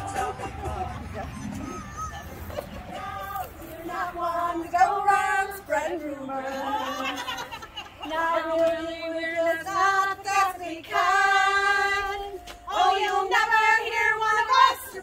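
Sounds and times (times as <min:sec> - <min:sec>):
women singing without accompaniment: 0:00.0 - 0:01.4, 0:02.8 - 0:15.0.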